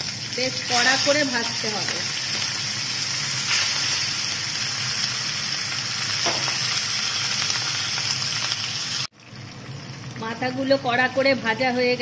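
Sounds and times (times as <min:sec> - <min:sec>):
fish frying in oil sizzling: 0:00.0 - 0:12.0.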